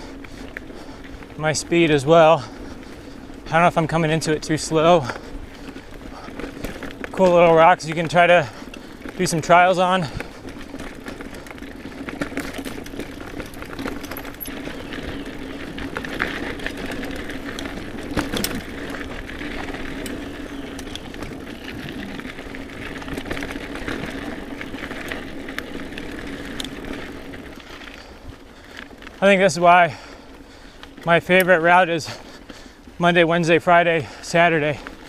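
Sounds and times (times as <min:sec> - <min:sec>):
bike frame rattling and clicking: 0:00.0 - 0:35.0
bike tyres rolling over dirt: 0:00.0 - 0:35.0.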